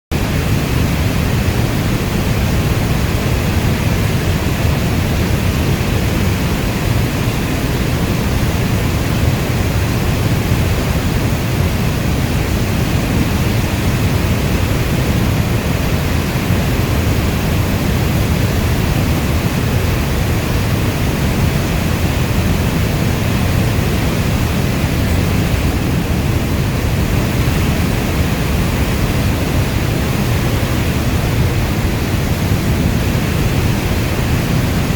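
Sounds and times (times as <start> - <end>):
heavy rainstorm: 0.1 - 34.9.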